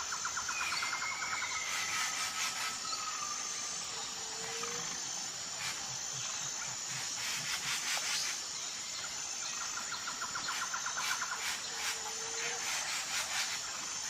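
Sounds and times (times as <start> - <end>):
high-pitched insect buzz: 0.0 - 14.0.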